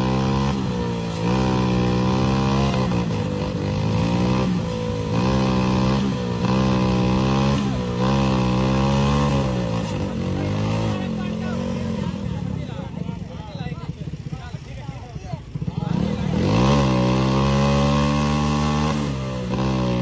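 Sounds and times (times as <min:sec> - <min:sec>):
tractor engine straining: 0:00.0 - 0:20.0.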